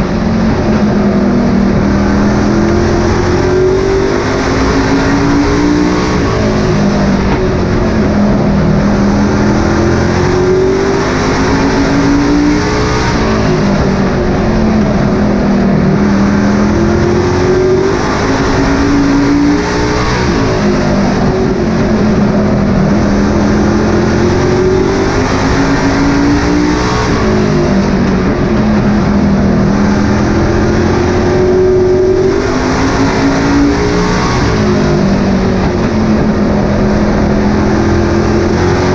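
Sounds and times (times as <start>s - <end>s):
racing truck engine: 0.0s - 38.9s.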